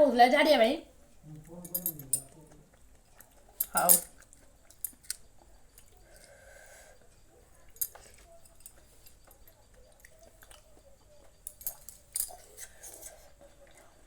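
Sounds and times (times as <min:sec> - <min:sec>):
quiet chewing: 0:01.1 - 0:11.5, 0:12.3 - 0:14.0.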